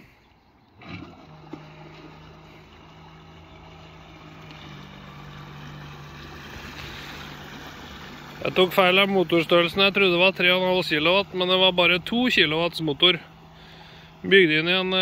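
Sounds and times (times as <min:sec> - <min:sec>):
electric outboard motor humming: 0:00.0 - 0:15.0
higher motor tone: 0:00.7 - 0:15.0.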